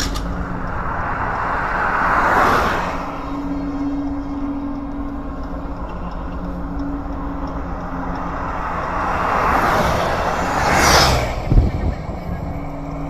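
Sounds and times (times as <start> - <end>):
road traffic rumble: 0.0 - 13.0
vehicle passing by: 0.0 - 13.0.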